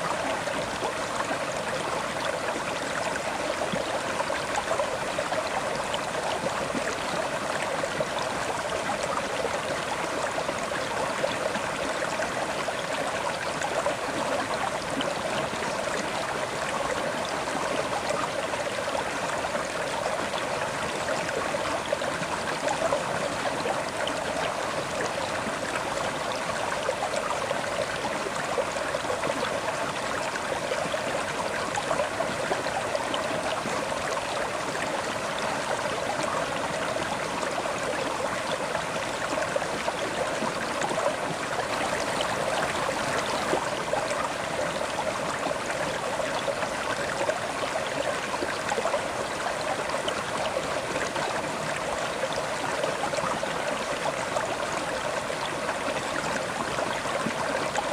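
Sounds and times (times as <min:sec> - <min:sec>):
river water flowing over rocks: 0:00.0 - 0:57.9.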